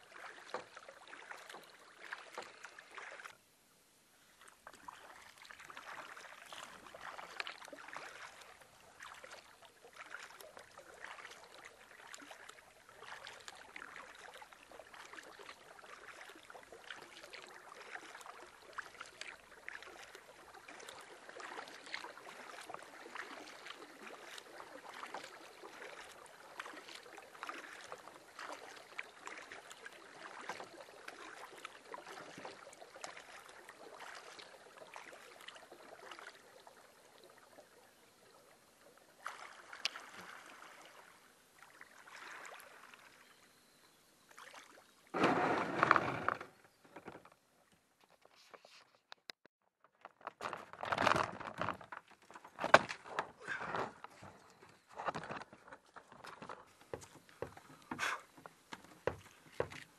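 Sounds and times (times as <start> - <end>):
paddle splashing water: 0.0 - 3.4, 4.1 - 59.9.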